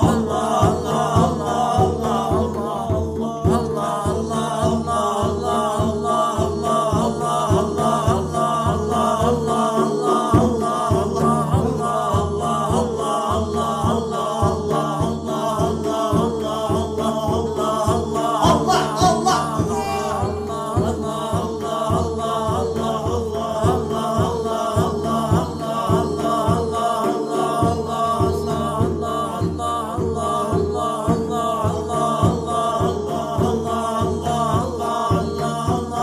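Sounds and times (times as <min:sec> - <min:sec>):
voices chanting in chorus: 0:00.0 - 0:36.0.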